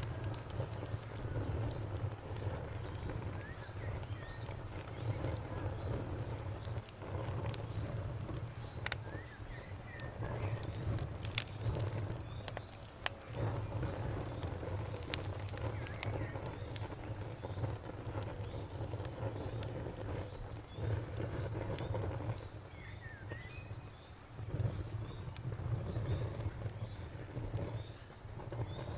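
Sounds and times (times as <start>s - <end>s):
campfire crackling and popping: 0.0s - 28.9s
crickets chirping: 0.0s - 28.9s.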